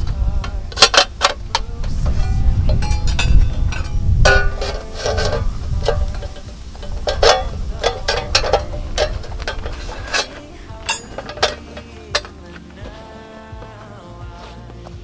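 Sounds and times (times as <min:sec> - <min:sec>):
camp cookware clinking: 0:00.0 - 0:15.0.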